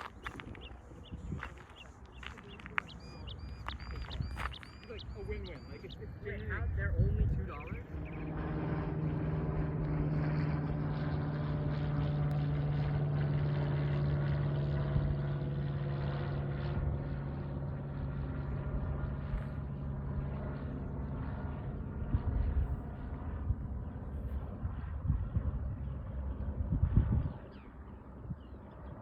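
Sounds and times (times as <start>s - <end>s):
engine droning: 0.0s - 29.0s.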